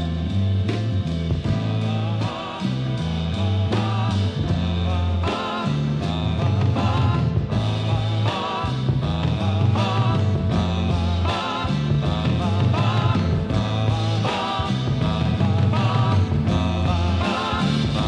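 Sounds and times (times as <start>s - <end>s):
psychedelic rock band: 0.0s - 18.0s.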